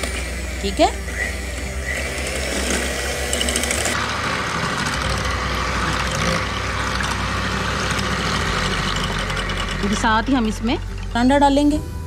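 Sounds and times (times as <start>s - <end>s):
electric hand mixer whisking: 0.0s - 11.6s.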